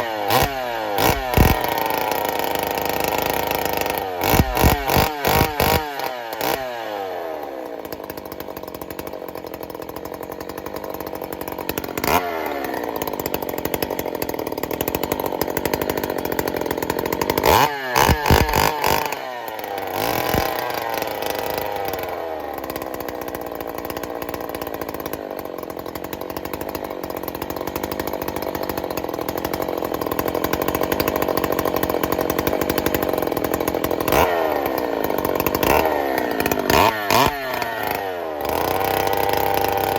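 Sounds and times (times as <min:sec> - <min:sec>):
chainsaw idling: 0:00.0 - 0:39.9
chainsaw throttle blips: 0:00.0 - 0:39.9.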